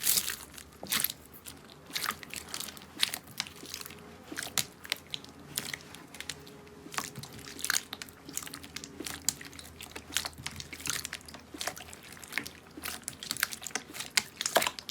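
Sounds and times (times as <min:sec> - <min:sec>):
slime squished by hand: 0:00.0 - 0:14.9.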